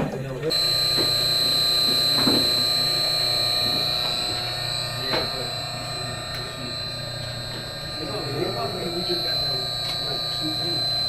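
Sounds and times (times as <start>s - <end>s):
high-pitched electronic tone: 0.5s - 11.0s
low hum: 0.5s - 11.0s.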